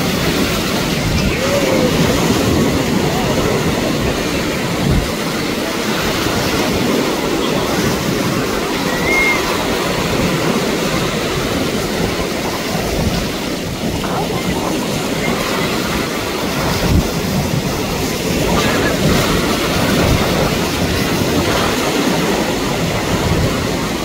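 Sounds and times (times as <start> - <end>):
choppy sea water and surf: 0.0 - 24.0
faint distant voices: 0.0 - 24.0.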